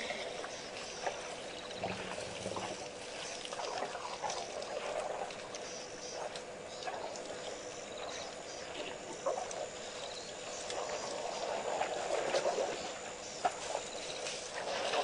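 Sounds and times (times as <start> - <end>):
small birds chirping: 0.0 - 15.0
water sloshing and dripping: 0.0 - 15.0.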